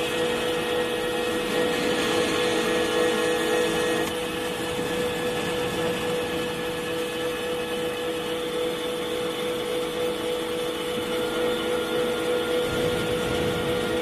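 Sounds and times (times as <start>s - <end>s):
lathe running with whine: 0.0s - 14.0s.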